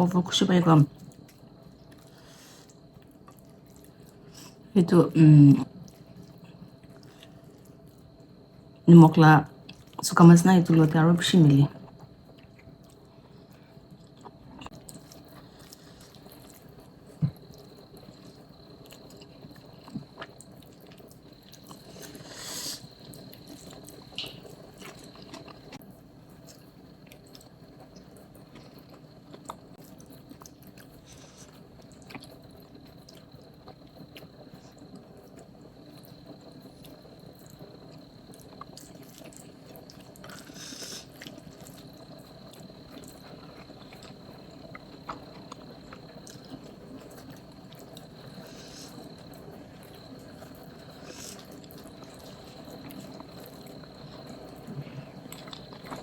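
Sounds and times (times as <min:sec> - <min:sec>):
quiet chewing: 0:00.9 - 0:04.7, 0:05.7 - 0:08.8, 0:09.6 - 0:10.0, 0:11.8 - 0:56.0.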